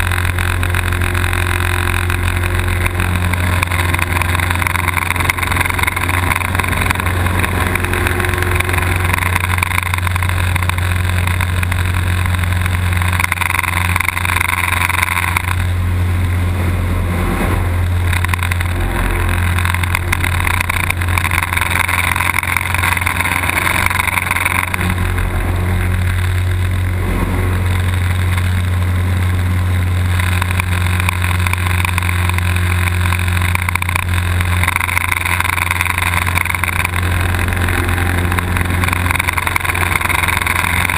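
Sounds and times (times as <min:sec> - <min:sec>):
high rushing air: 0:00.0 - 0:40.9
propeller engine droning: 0:00.0 - 0:40.9.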